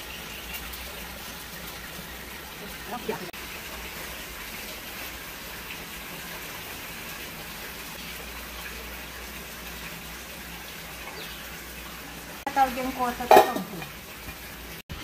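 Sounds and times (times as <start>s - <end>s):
water pouring into a pot: 0.0s - 15.0s.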